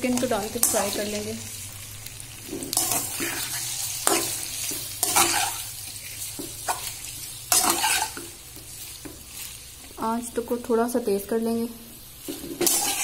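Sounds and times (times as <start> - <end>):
metal spatula scraping wok: 0.0 - 10.0, 12.2 - 13.0
chicken sizzling in hot oil: 0.0 - 13.0.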